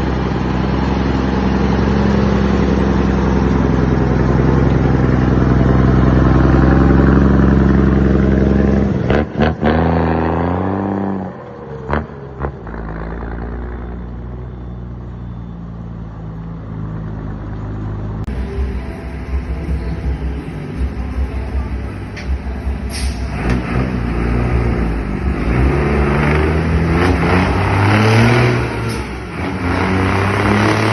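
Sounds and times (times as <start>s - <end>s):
diesel truck engine revving: 0.0s - 30.9s.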